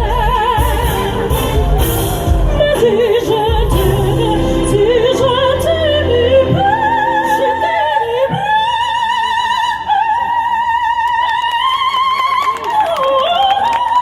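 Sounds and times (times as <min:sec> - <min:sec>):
operatic soprano singing: 0:00.0 - 0:14.0.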